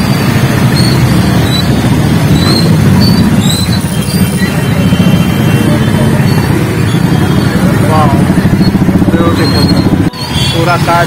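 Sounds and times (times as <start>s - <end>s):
road and engine noise: 0.0s - 11.0s.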